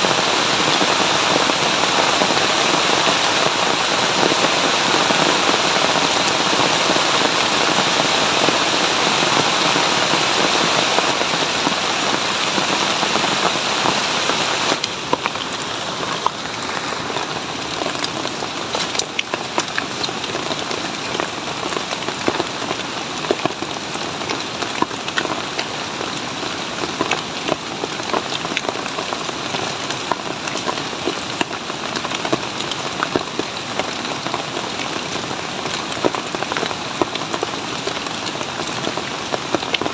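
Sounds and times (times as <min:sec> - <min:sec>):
heavy rain hissing: 0:00.0 - 0:39.9
raindrops pattering: 0:00.0 - 0:39.9.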